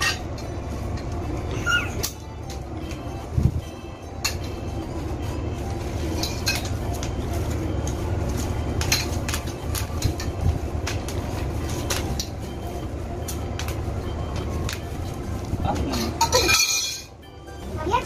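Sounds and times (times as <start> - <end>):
metal tubes clinking and tapping: 0.0 - 17.6
steady low hum: 0.0 - 18.0.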